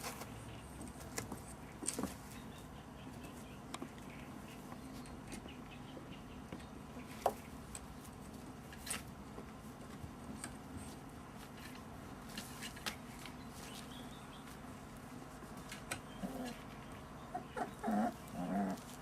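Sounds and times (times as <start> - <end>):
puppies scuffling and tapping: 0.0 - 5.6, 6.5 - 17.0
low steady hum: 0.0 - 19.0.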